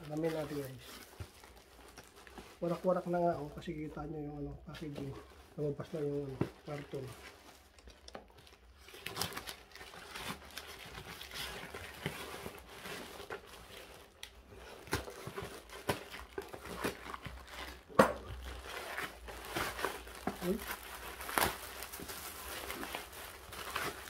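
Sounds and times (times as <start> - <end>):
cardboard packaging rustling: 0.0 - 24.0.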